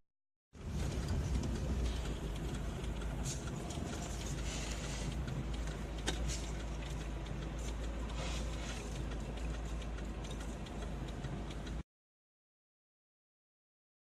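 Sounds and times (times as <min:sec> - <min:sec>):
car engine and tyres rumbling: 0:00.5 - 0:11.8.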